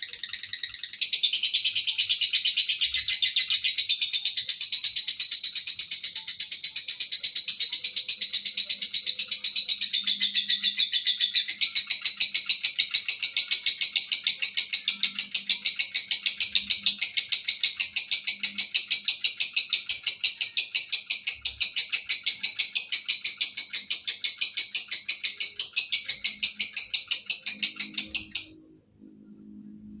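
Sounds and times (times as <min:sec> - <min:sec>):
lovebird shrill chattering song: 0:00.0 - 0:28.8.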